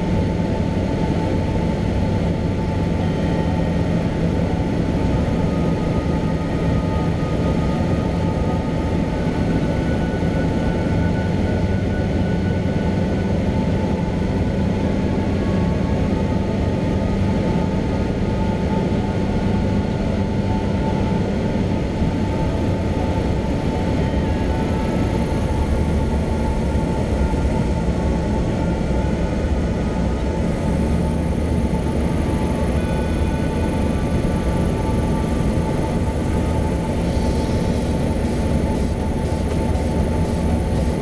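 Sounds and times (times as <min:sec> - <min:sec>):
airplane engine drone in cabin: 0:00.0 - 0:41.0.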